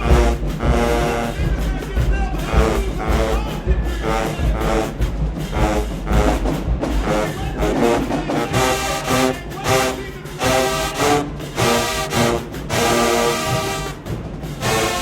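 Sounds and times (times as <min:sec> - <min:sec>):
brass chords: 0:00.0 - 0:15.0
heavy bass drums: 0:00.0 - 0:15.0.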